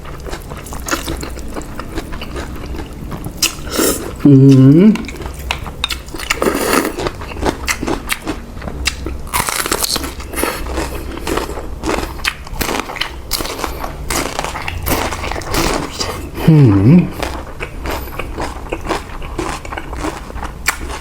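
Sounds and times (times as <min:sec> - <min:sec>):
crunching and chewing: 0:00.0 - 0:16.5, 0:17.1 - 0:21.0.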